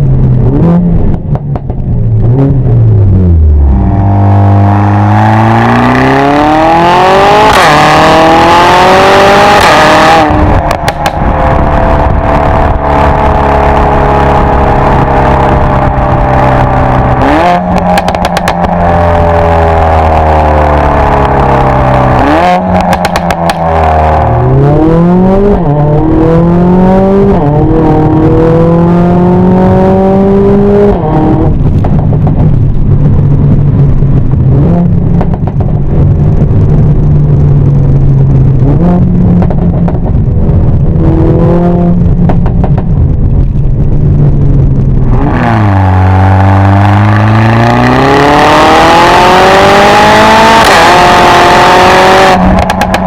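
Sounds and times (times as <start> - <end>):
exhaust pops and crackles: 0.0 - 6.5, 8.8 - 24.6, 30.8 - 53.0
car engine revving and accelerating: 0.0 - 42.8, 44.8 - 53.0.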